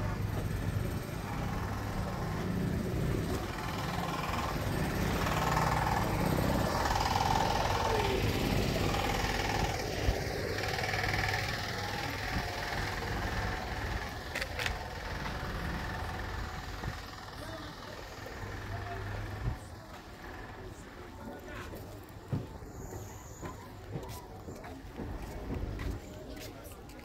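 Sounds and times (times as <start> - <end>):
traffic noise: 0.0 - 27.0
vehicle engine humming: 0.0 - 27.0.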